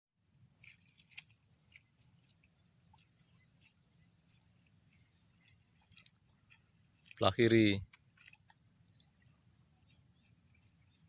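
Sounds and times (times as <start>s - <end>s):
crickets droning: 0.2s - 11.0s.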